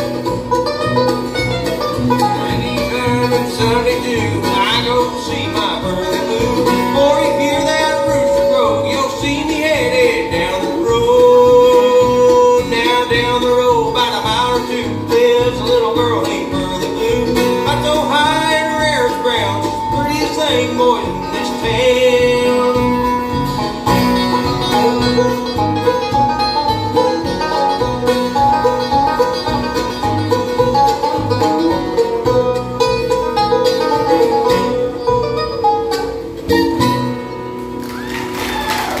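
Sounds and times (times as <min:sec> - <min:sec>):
acoustic guitar: 0:00.0 - 0:39.0
fast banjo picking: 0:00.0 - 0:39.0
upright bass: 0:00.0 - 0:39.0.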